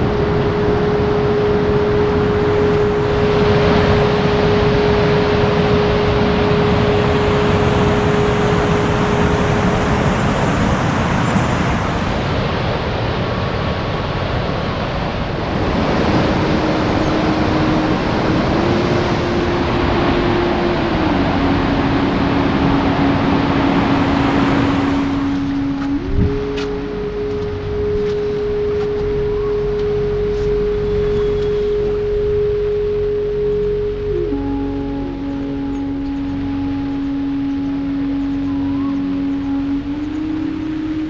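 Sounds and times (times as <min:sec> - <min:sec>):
faint long held tones: 0:00.0 - 0:41.0.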